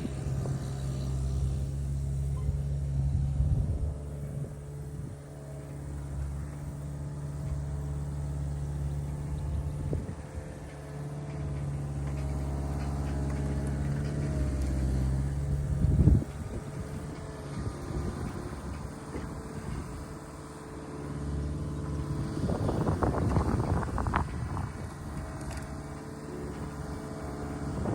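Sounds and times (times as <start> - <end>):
skid steer engine running: 0.0 - 27.9.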